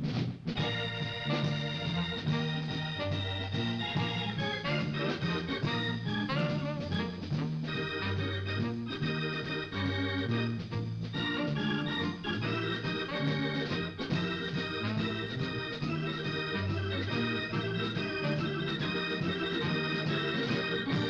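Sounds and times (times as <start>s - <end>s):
organ playing held chords: 0.0s - 21.0s
stepping bass line: 0.0s - 21.0s.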